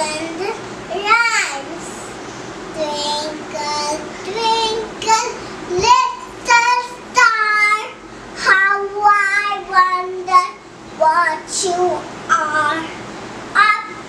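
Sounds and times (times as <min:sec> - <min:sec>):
young girl singing: 0:00.0 - 0:14.0.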